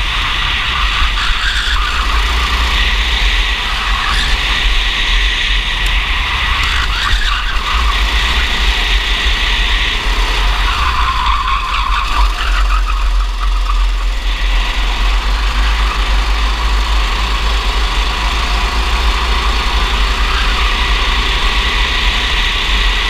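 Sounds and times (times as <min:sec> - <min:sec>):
kart engine running hard: 0:00.0 - 0:23.0.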